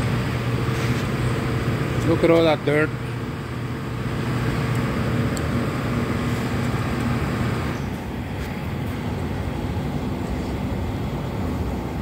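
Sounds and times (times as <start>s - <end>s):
machine hum and rumble: 0.0s - 12.0s.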